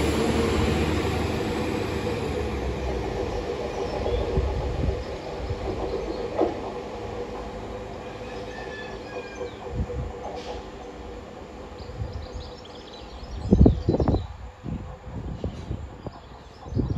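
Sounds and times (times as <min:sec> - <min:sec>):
train engine hum: 0:00.0 - 0:16.9
train wheel rumble: 0:00.0 - 0:16.9.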